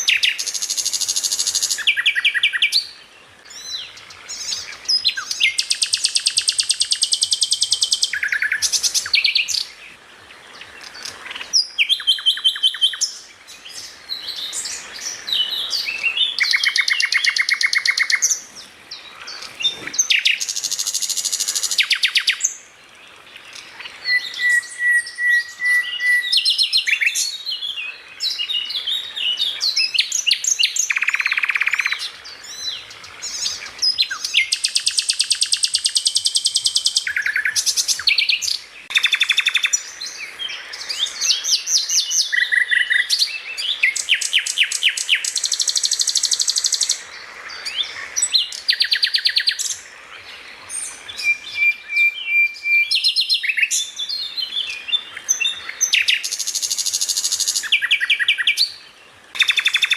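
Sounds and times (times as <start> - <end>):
songbird singing trills: 0.0 - 59.9.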